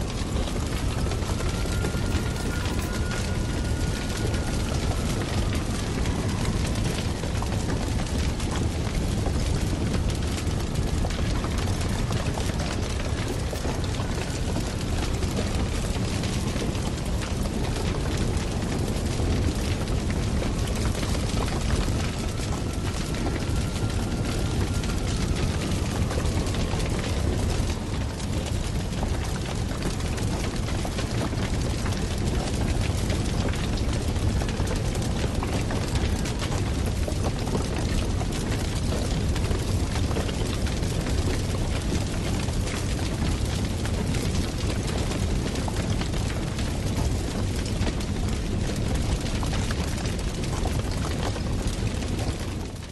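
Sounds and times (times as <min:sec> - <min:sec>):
low crackling rumble: 0:00.0 - 0:52.9.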